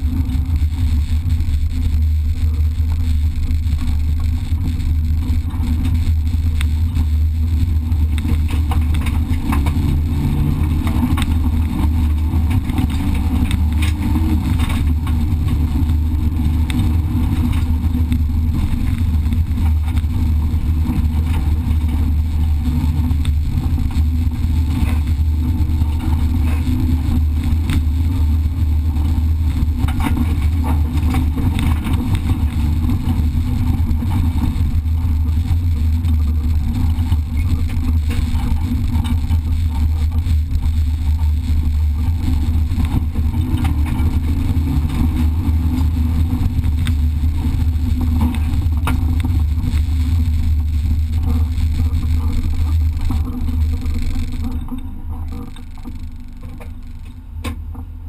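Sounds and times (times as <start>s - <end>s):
car engine running: 0.0s - 58.0s
wind and road noise rumble: 0.0s - 58.0s.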